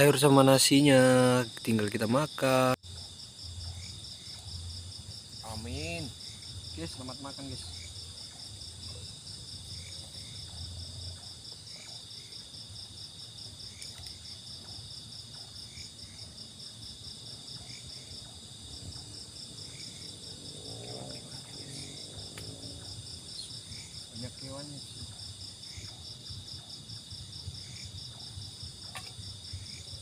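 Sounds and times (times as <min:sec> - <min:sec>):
cricket double chirp: 0:00.0 - 0:30.0
insects trilling: 0:00.0 - 0:30.0
high insect buzz: 0:00.3 - 0:26.2.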